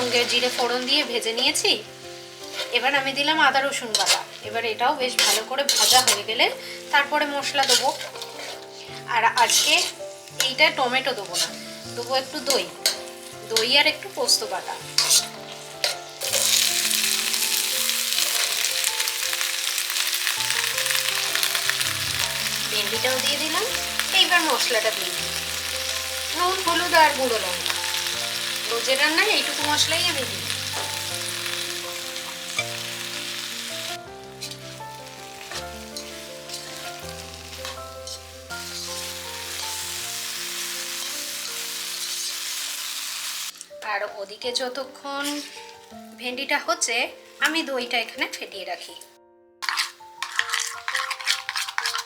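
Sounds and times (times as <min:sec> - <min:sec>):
food sizzling in hot oil: 0:00.0 - 0:49.0, 0:49.6 - 0:52.0
soft background music: 0:00.0 - 0:52.0.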